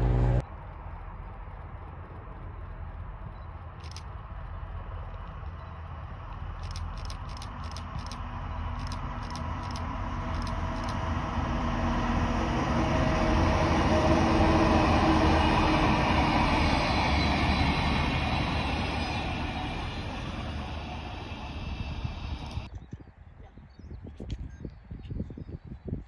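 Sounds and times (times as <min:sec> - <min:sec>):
train wheels rumbling on rails: 0:00.0 - 0:22.7.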